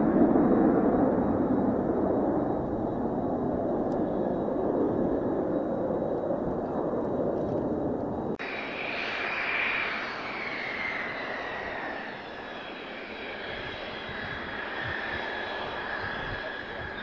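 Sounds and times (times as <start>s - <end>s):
jet engine whining: 0.0s - 17.0s.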